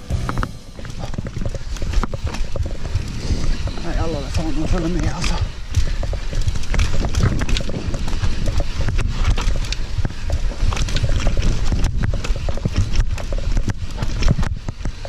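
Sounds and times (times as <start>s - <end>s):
low rolling rumble: 0.0s - 13.6s
bike knocking and rattling over stones: 0.0s - 15.0s
wind on microphone: 0.0s - 15.0s.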